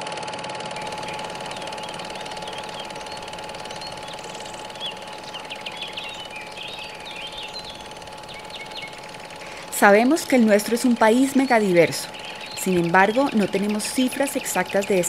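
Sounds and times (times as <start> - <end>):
mechanical clatter with hum: 0.0 - 15.0
small birds chirping: 0.8 - 15.0.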